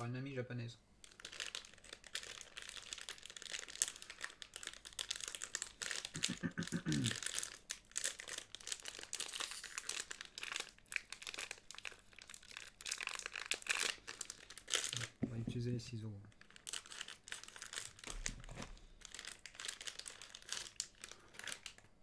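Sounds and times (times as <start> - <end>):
plastic wrapper crinkling: 1.0 - 22.0.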